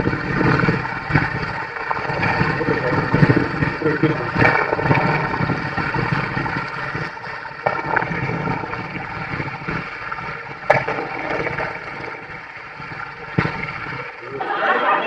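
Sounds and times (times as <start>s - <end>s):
water running and gurgling: 0.0s - 14.8s.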